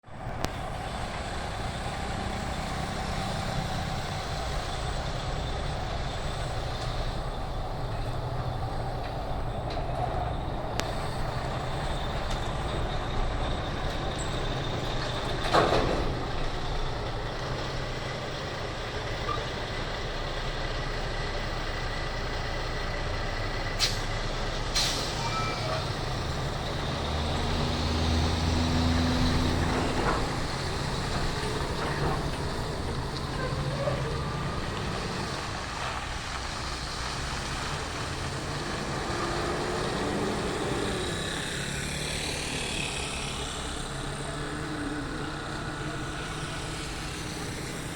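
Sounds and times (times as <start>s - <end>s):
truck engine rumbling: 0.0s - 47.9s.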